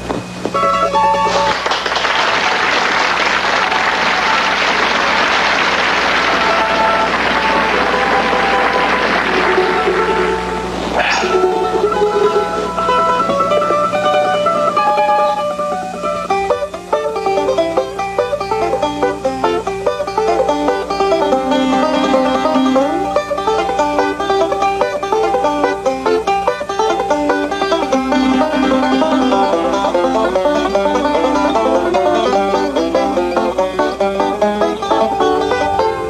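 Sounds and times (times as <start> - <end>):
fast banjo picking: 3.2 - 36.0.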